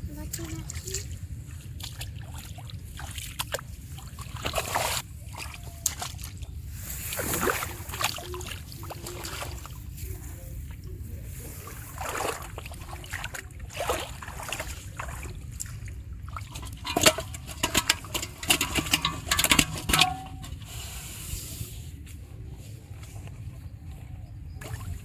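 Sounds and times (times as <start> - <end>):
splashing in shallow water: 0.1 - 21.0, 24.6 - 25.0.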